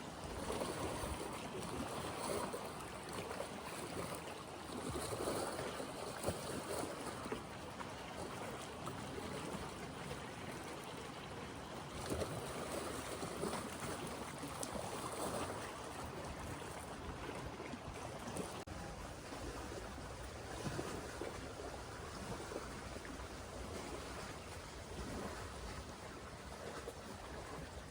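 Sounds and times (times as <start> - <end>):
waves lapping on shore: 0.0 - 27.9.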